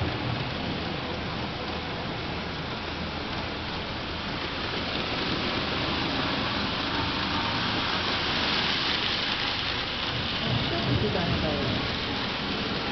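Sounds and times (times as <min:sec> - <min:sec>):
model trains rattling on track: 0:00.0 - 0:12.9.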